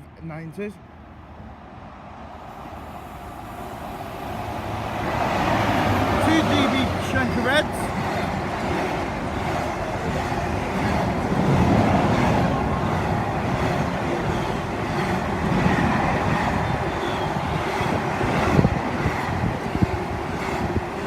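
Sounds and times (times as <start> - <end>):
freight train rumbling over rails: 0.9 - 21.0.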